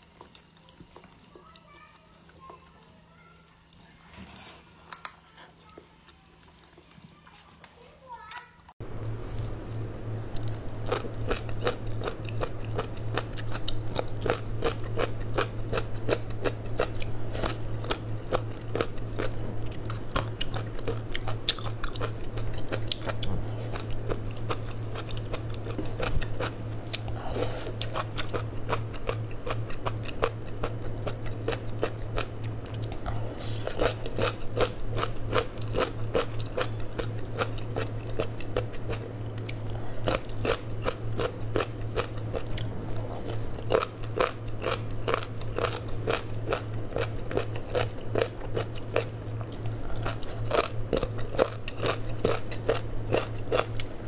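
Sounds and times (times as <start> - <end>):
crunchy food being chewed: 0.0 - 2.8, 9.0 - 54.0
steady low hum: 8.1 - 54.0.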